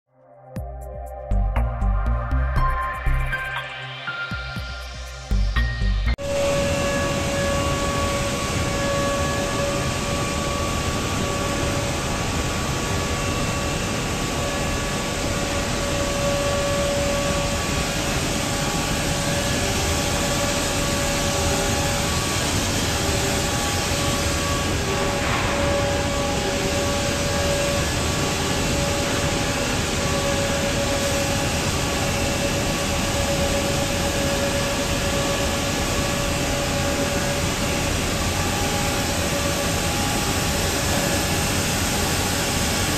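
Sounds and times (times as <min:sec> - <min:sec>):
sanding machine whine: 0:06.2 - 0:42.9
belt and conveyor noise: 0:06.3 - 0:42.9.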